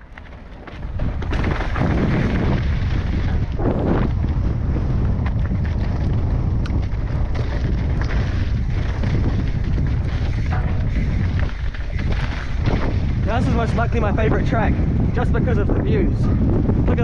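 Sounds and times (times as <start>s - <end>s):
bike clicks and rattles: 0.0s - 15.6s, 16.2s - 17.0s
bike tyres on dirt: 0.0s - 17.0s
wind buffeting microphone: 0.0s - 17.0s.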